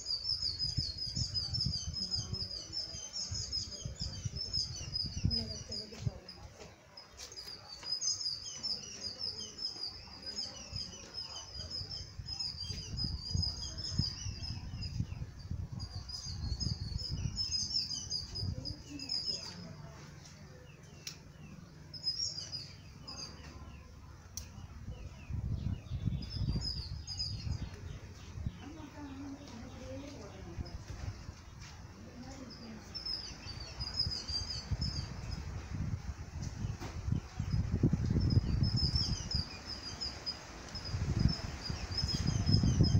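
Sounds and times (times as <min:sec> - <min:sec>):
birds twittering: 0:00.0 - 0:42.9.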